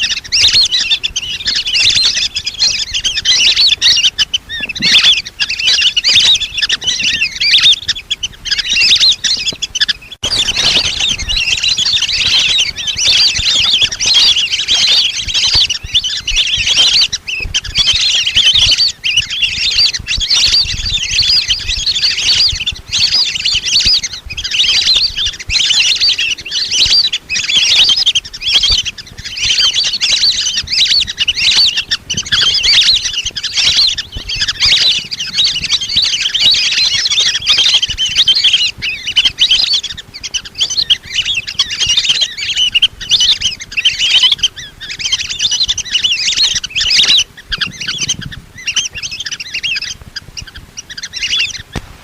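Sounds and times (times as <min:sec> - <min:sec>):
ducks whistling calls: 0:00.0 - 0:52.0.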